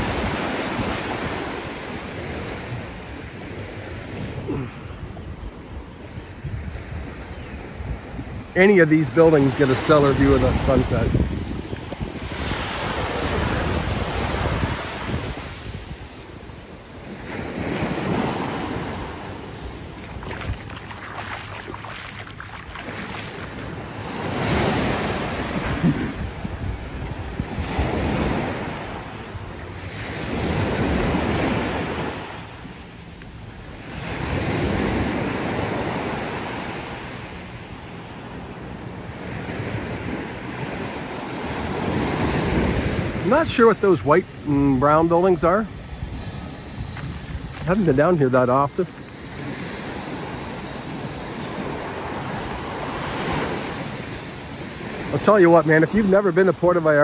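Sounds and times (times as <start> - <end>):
wind buffeting microphone: 0.0 - 32.1, 37.1 - 56.2
surf washing up on beach: 0.0 - 57.0.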